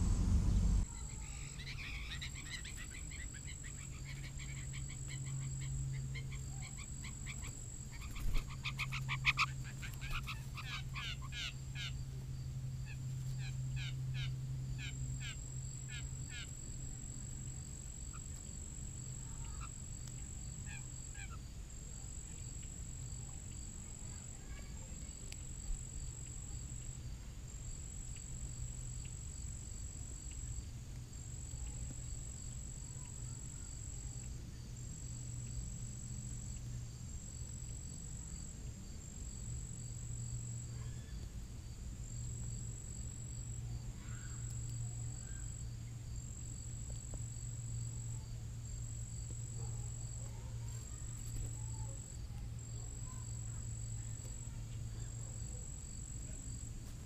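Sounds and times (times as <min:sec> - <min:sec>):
faint high whine: 0:00.0 - 0:57.0
steady low hum: 0:00.0 - 0:57.0.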